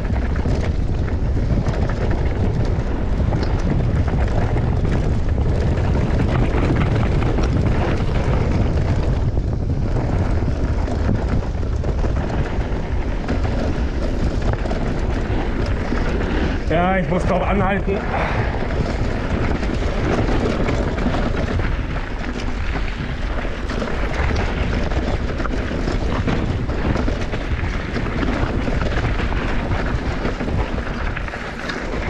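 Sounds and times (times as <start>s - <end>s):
small clicks and rattles: 0.0s - 18.0s, 18.7s - 32.0s
bike tyre noise: 0.0s - 32.0s
wind rushing over microphone: 0.0s - 32.0s.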